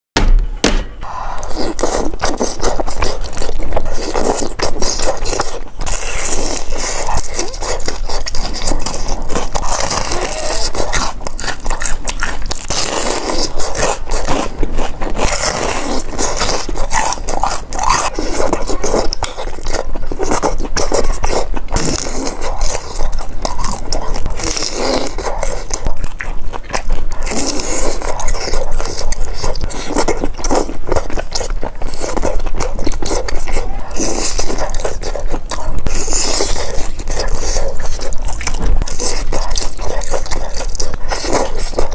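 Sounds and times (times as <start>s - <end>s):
chewing and biting: 0.6s - 41.9s.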